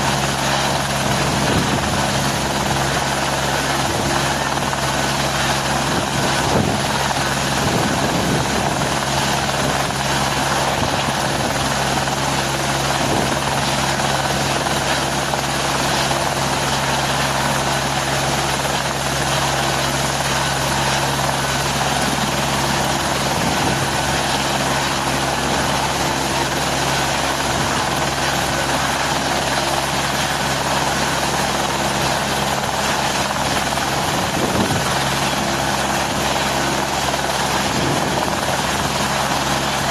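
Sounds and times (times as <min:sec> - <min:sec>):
helicopter running overhead: 0:00.0 - 0:39.9.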